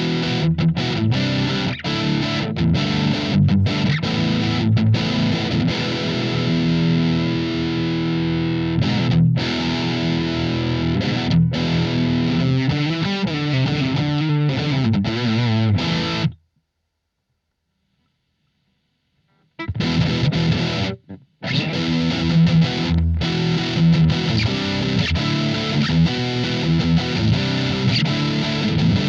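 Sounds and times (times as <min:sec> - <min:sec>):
distorted electric guitar: 0:00.0 - 0:16.4, 0:18.6 - 0:29.0.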